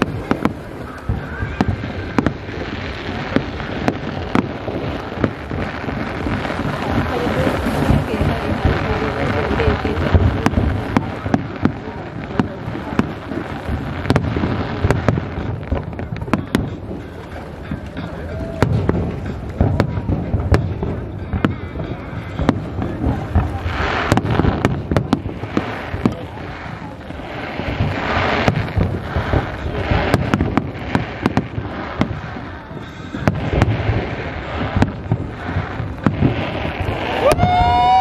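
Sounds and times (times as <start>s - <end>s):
crackling hiss: 0.0s - 38.0s
fireworks bangs and booms: 0.0s - 38.0s.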